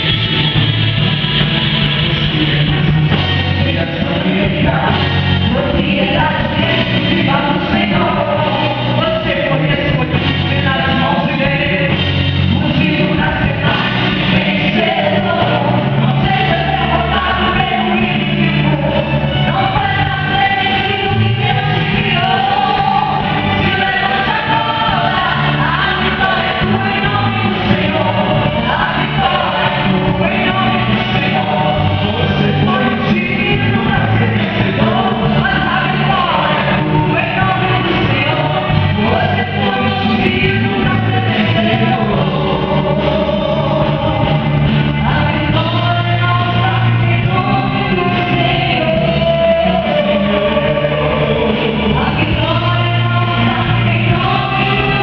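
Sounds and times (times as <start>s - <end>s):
band accompaniment with bass: 0.0s - 55.0s
guitar: 0.0s - 55.0s
person singing: 2.1s - 55.0s.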